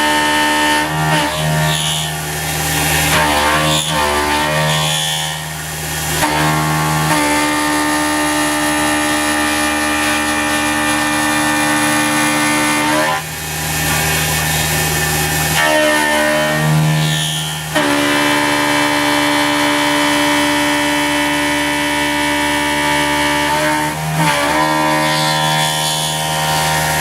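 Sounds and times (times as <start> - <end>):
milling machine cutting whine: 0.0 - 27.0.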